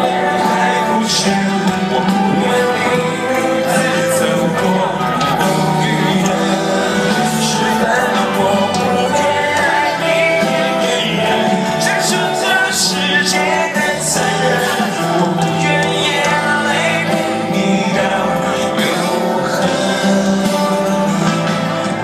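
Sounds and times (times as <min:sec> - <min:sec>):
live rock band: 0:00.0 - 0:22.0
man singing lead vocals: 0:00.0 - 0:22.0.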